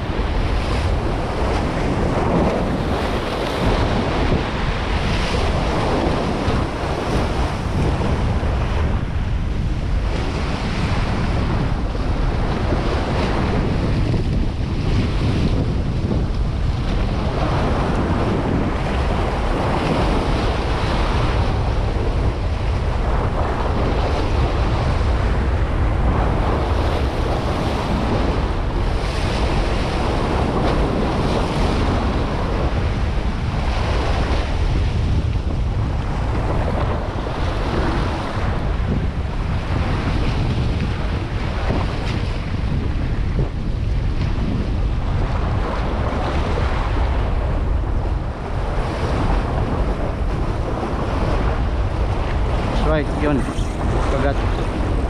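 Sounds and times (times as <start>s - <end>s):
surf washing against rocks: 0.0s - 55.0s
wind rumbling on microphone: 0.0s - 55.0s.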